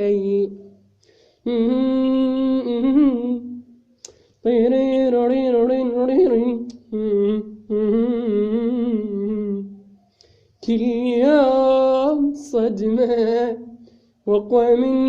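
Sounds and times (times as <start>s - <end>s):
solo voice singing wordless held notes: 0.0s - 0.7s, 1.4s - 15.0s.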